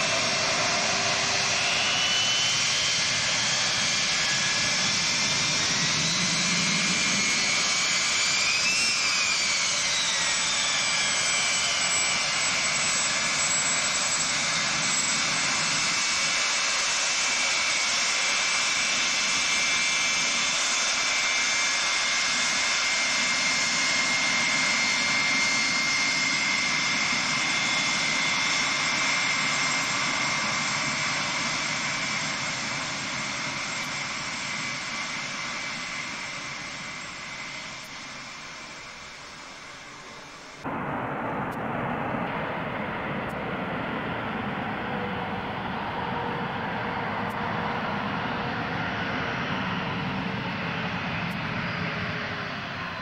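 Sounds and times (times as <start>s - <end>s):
jet engine whine and roar: 0.0s - 53.0s.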